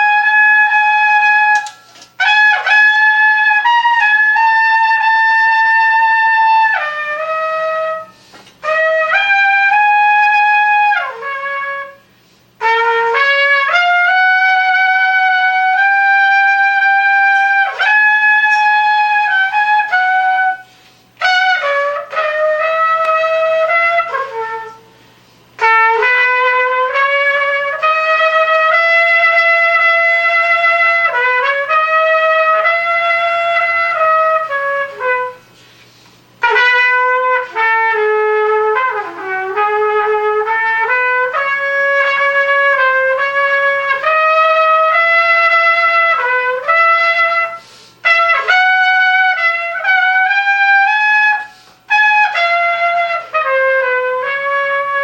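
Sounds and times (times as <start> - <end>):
solo trumpet melody: 0.0 - 55.0.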